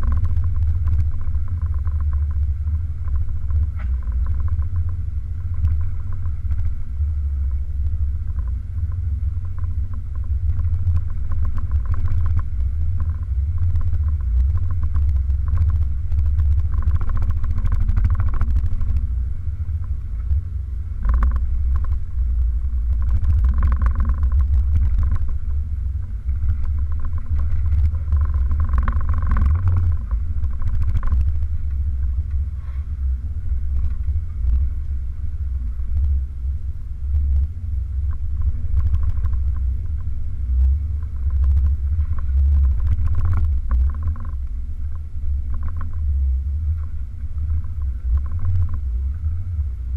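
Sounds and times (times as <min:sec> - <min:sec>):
muffled engine rumble: 0:00.0 - 0:49.9.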